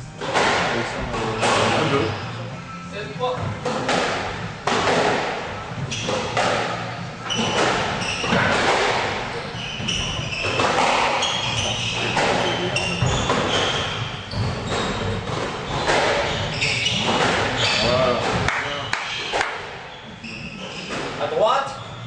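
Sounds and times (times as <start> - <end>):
squash ball hitting rackets and walls: 0.0 - 2.1, 3.4 - 21.3
shoes squeaking on wooden floor: 0.2 - 2.6, 3.2 - 22.0.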